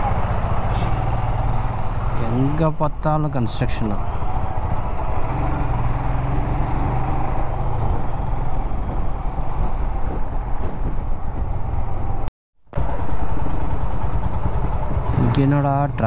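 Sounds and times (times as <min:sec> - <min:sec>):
motorcycle engine at low speed: 0:00.0 - 0:16.0
road traffic: 0:00.0 - 0:16.0.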